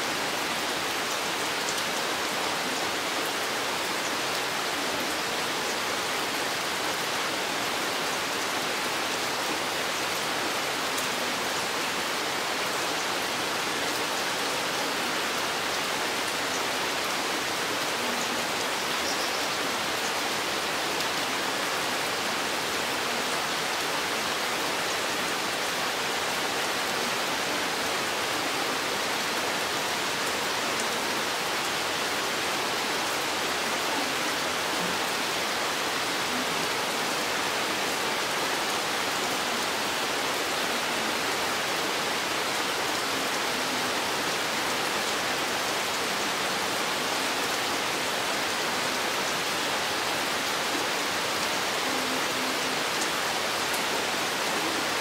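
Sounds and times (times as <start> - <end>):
steady rain in forest: 0.0 - 55.0.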